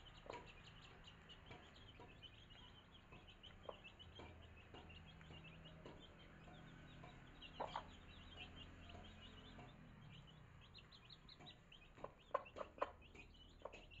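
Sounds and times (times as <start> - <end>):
chicks peeping: 0.0 - 14.0
hen clucking: 0.0 - 14.0.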